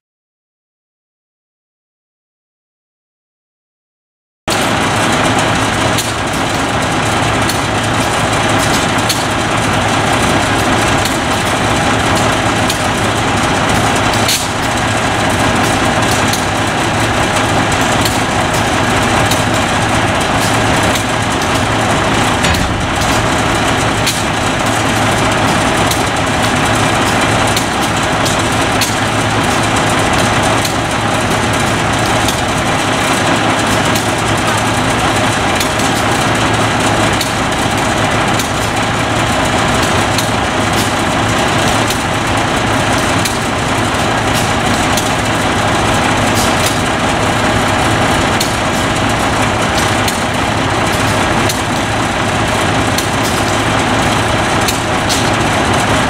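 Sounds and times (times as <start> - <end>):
diesel engine idling: 4.5 - 56.0.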